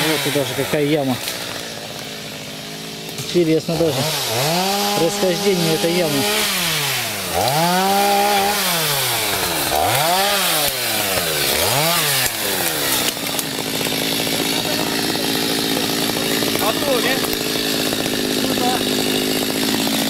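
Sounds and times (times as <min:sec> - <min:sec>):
chainsaw revving: 0:00.0 - 0:20.0.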